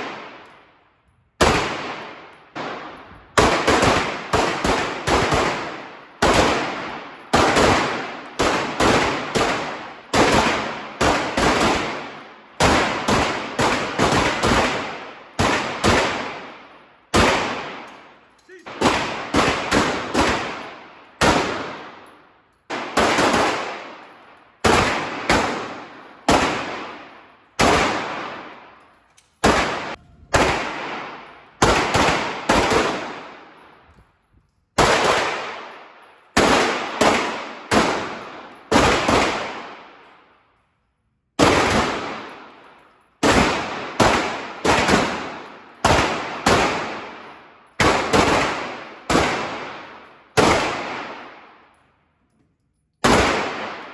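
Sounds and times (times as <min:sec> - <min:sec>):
pistol shots echoing: 0:00.0 - 0:33.9, 0:34.7 - 0:40.3, 0:41.4 - 0:51.8, 0:53.0 - 0:53.9.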